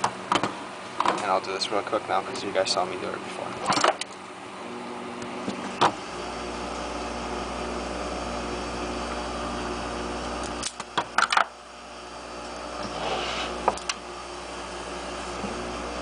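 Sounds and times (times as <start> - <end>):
heat gun fan humming: 0.0 - 16.0.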